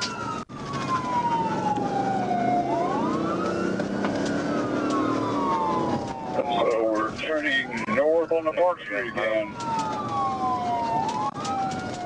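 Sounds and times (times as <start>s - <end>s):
engine and road noise: 0.0s - 12.0s
police siren wailing: 0.0s - 12.0s.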